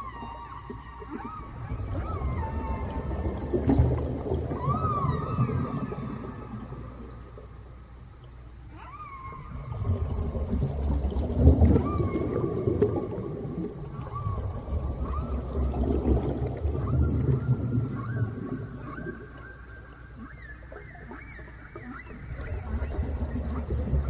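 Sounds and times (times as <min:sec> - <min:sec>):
whale song calls: 0:00.0 - 0:24.0.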